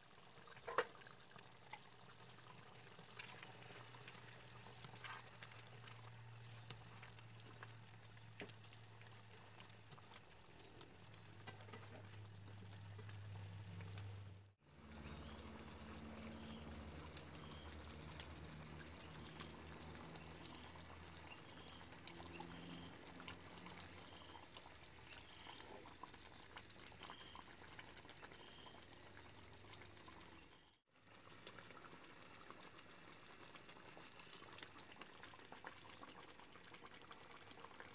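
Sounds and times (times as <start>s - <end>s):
stew bubbling and popping: 0.0s - 37.9s.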